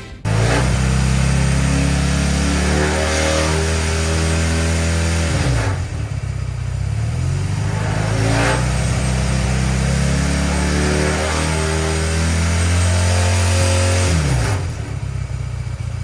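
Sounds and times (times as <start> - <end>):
go-kart engine revving: 0.2 - 16.0.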